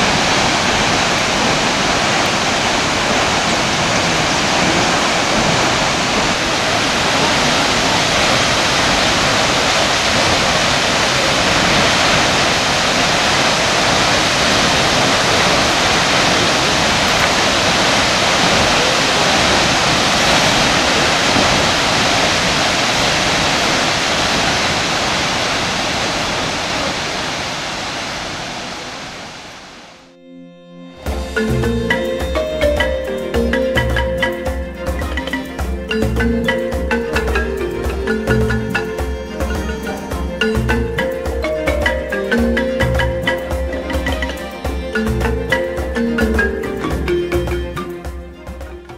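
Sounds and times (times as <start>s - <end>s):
waterfall roaring: 0.0s - 30.1s, 31.0s - 48.0s.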